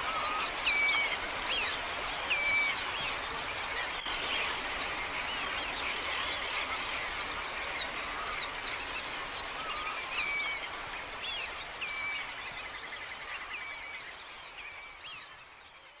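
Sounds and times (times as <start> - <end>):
wild birds calling and singing: 0.0 - 15.8
outdoor background noise: 0.0 - 16.0.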